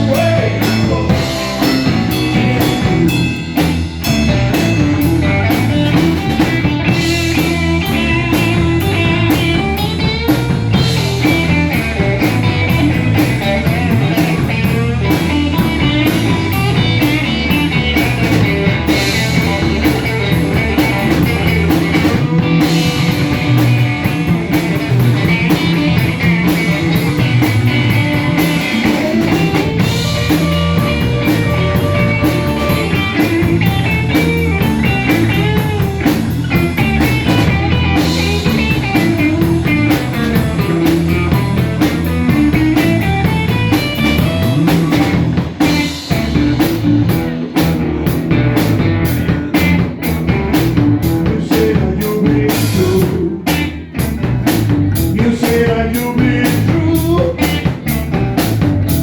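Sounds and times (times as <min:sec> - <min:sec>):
bent guitar notes: 0:00.0 - 0:51.3
rock band playing: 0:00.0 - 0:59.0.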